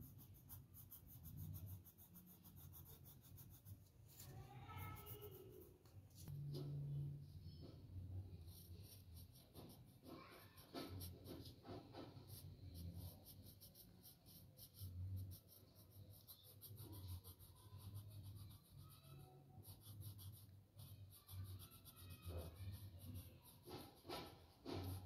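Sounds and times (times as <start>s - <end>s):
pencil scratching on paper: 0.0s - 6.7s, 7.5s - 25.0s.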